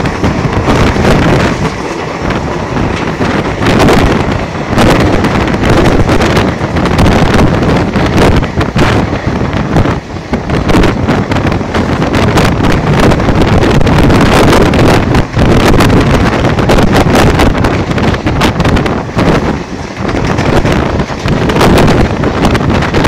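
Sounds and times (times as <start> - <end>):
train running noise: 0.0 - 23.0
wind buffeting microphone: 0.0 - 23.0.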